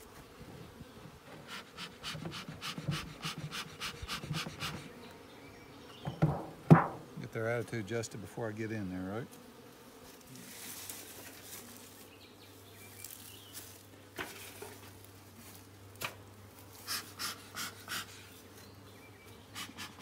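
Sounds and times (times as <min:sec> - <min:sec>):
bee smoker bellows hissing: 0:00.0 - 0:20.0
honeybees buzzing: 0:00.0 - 0:20.0.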